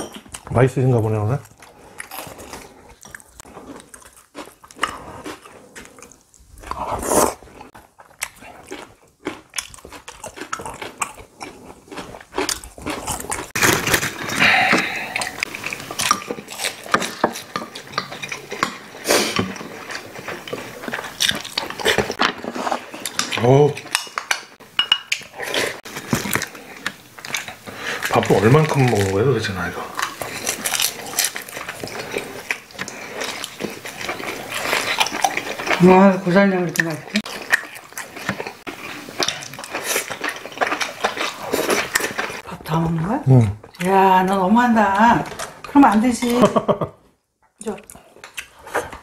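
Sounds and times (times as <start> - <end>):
chewing and eating: 0.0 - 0.6, 1.2 - 44.5, 45.2 - 46.5, 47.5 - 49.0.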